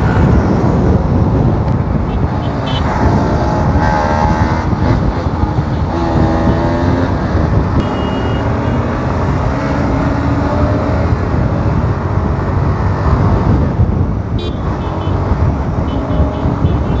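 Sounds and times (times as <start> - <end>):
other motorbike engines: 0.0 - 17.0
wind rumble on microphone: 0.0 - 17.0.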